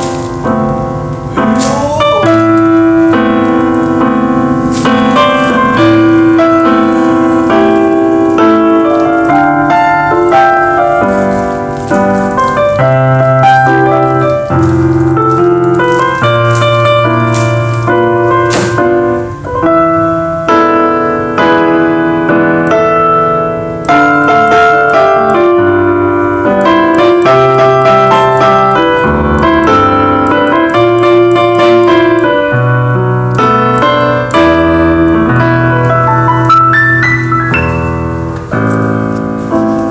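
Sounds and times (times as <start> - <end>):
digital piano slow melody: 0.0 - 39.9.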